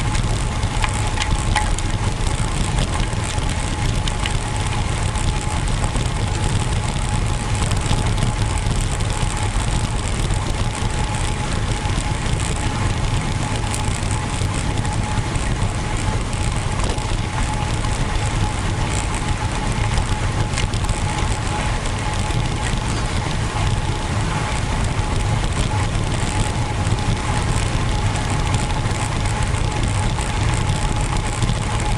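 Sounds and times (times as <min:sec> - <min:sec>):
bicycle tyre and road noise: 0:00.0 - 0:31.9.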